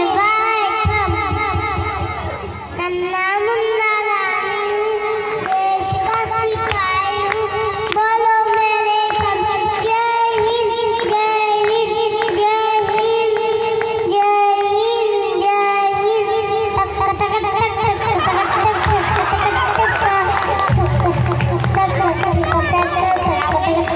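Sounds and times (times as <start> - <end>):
boy singing through a pa: 0.0 - 18.4, 20.0 - 23.9.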